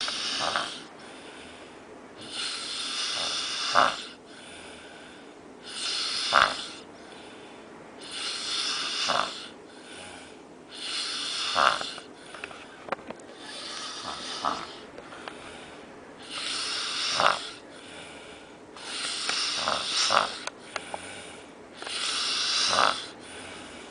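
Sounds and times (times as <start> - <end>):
man snoring: 0.0 - 1.6, 2.2 - 7.2, 8.0 - 12.1, 13.4 - 23.9
quiet breathing: 0.0 - 23.9.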